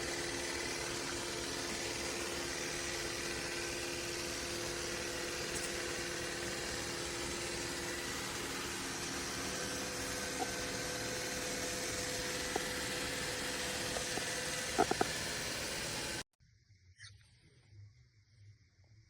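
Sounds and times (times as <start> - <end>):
robot vacuum running: 0.0 - 16.2.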